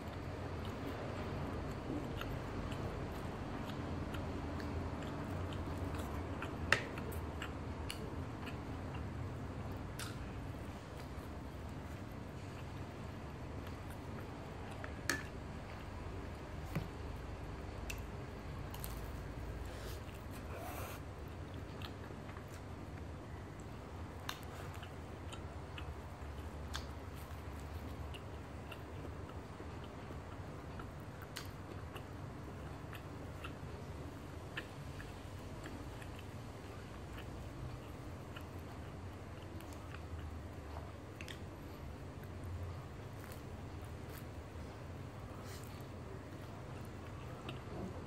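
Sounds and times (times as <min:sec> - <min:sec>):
chewing: 0:00.0 - 0:17.0, 0:17.6 - 0:48.0
low steady hum: 0:00.0 - 0:48.0.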